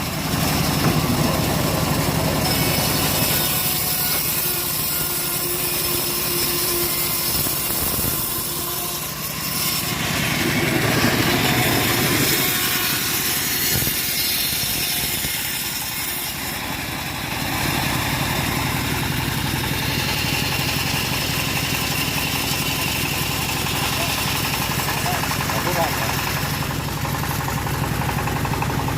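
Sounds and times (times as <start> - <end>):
engine-driven saw cutting wood: 0.0 - 28.9.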